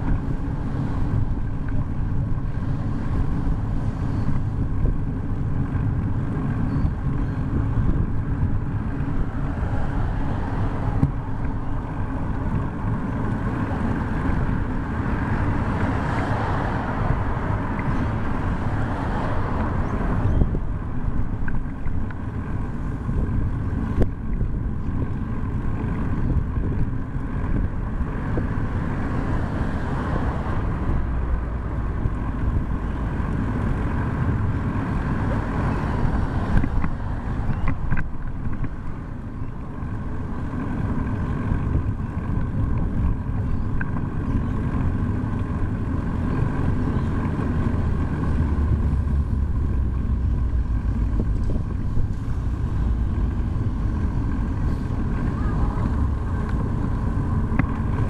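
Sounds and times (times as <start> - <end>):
road noise: 0.0 - 58.0
wind rushing over microphone: 0.0 - 58.0.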